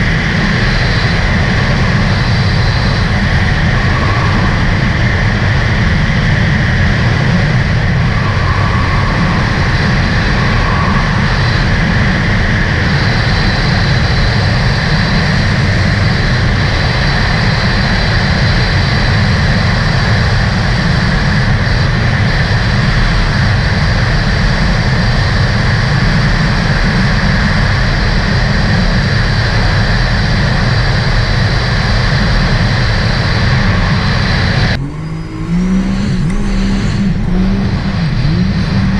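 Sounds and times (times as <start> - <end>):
thin high whine: 0.0 - 24.1, 30.5 - 38.9
personal watercraft engine: 0.0 - 38.9.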